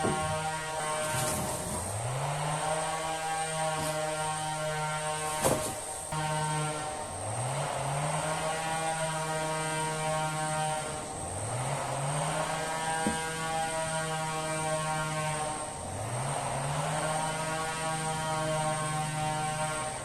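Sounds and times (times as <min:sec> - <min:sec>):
chainsaw cutting hardwood: 0:00.0 - 0:20.0.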